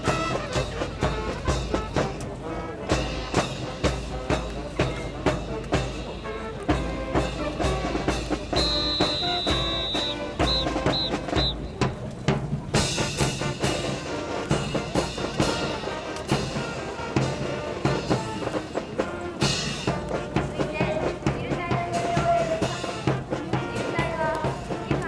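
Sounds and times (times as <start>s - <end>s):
music with drums and brass: 0.0s - 25.0s.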